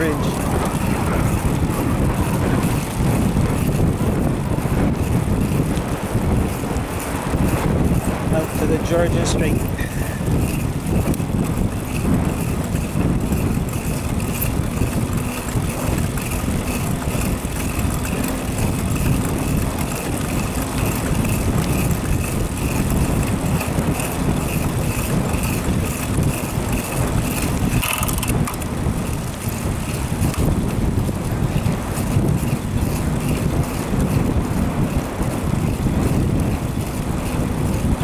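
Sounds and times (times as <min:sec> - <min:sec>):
bicycle rolling: 0:00.0 - 0:38.0
wind on microphone: 0:00.0 - 0:38.0.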